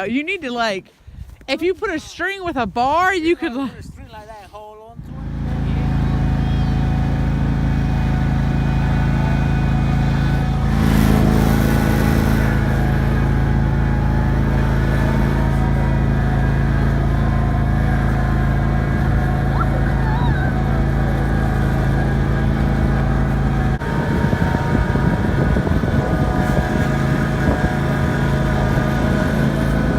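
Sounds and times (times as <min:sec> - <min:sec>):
lawn mower engine running: 0:05.1 - 0:29.9.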